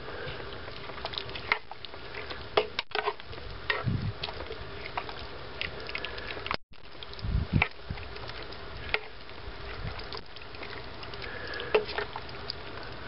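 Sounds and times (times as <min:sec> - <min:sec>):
wet squelching of beans: 0:00.0 - 0:13.0.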